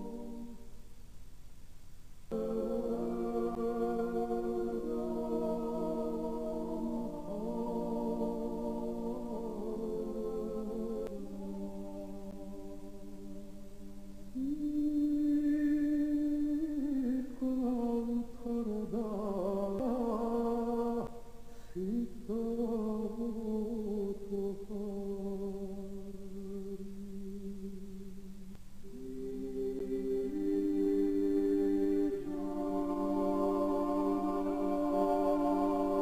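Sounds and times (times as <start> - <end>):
ambient music with held tones: 0.0 - 36.0.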